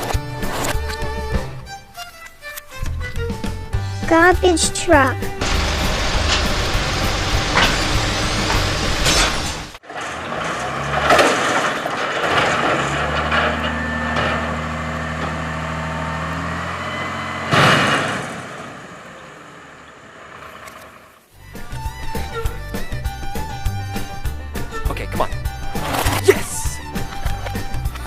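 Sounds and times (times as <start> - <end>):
garbage truck engine running: 3.0 - 28.0.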